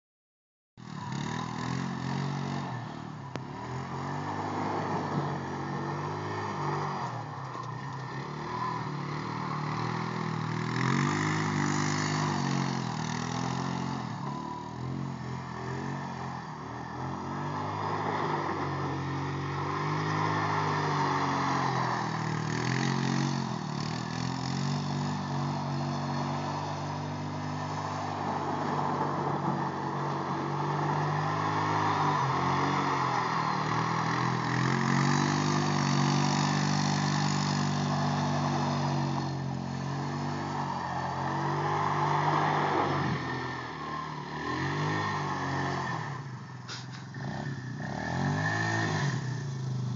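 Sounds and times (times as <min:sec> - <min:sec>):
atv engine revving: 0:00.8 - 0:49.9.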